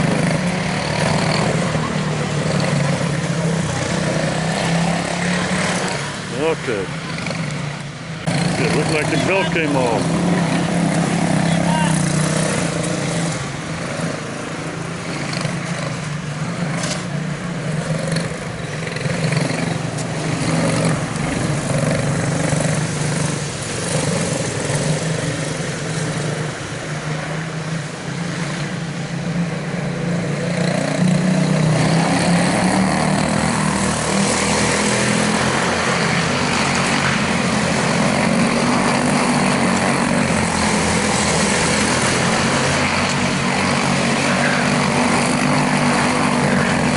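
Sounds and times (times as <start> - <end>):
small race car engines buzzing: 0.0 - 46.9.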